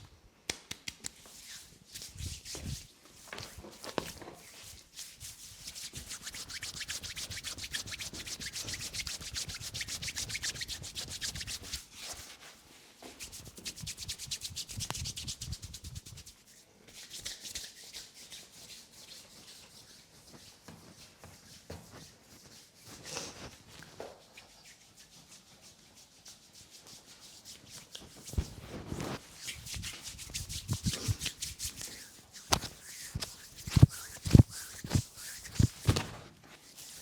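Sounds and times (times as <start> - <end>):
hands rubbing on skin: 0.5 - 12.6, 13.2 - 37.0.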